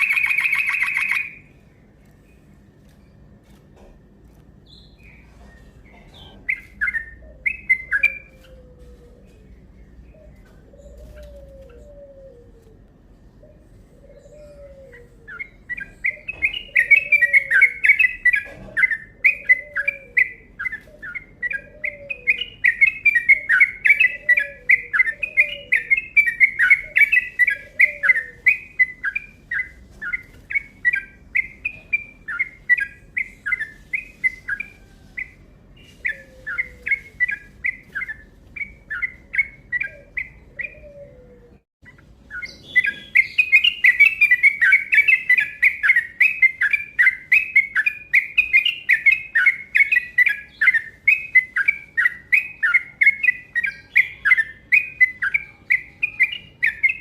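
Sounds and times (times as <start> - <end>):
lower falling bird call: 0.0 - 1.6, 6.2 - 57.0
bird chattering chirps: 0.0 - 2.5, 4.6 - 8.6, 13.6 - 40.9, 41.8 - 57.0.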